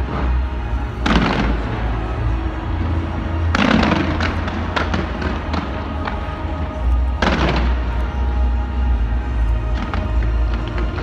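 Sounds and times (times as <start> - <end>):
fireworks bursts: 0.0 - 11.0.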